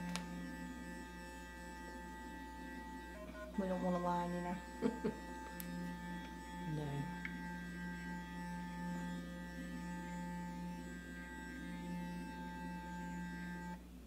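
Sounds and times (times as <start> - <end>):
electric facial brush buzzing: 0.0 - 13.9.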